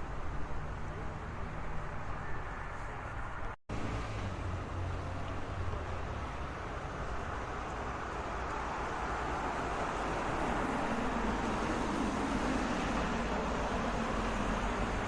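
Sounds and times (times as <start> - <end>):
passing cars and tyre noise: 0.0 - 15.0.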